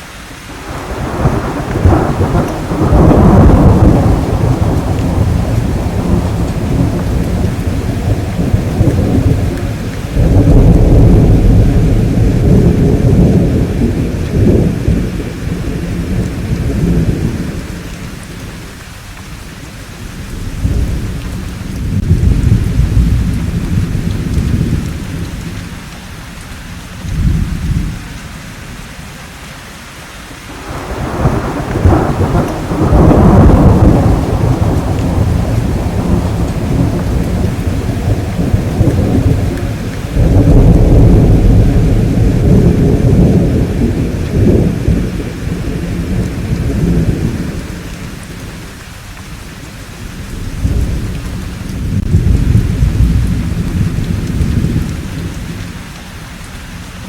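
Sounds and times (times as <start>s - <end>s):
steady rain: 0.0s - 57.0s
thunder rumbling: 0.5s - 29.1s, 30.5s - 57.0s.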